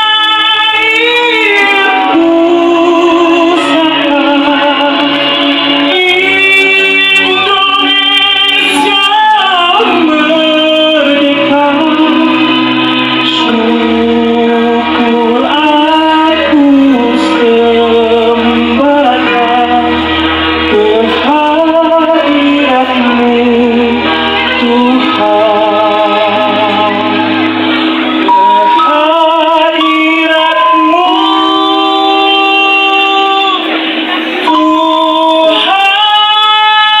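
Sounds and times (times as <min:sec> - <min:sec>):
amplified backing instruments: 0:00.0 - 0:37.0
person singing with vibrato: 0:00.0 - 0:37.0.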